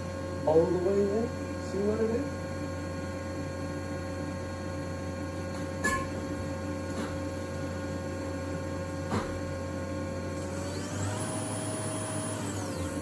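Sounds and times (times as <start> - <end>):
low electrical hum: 0.0 - 10.8.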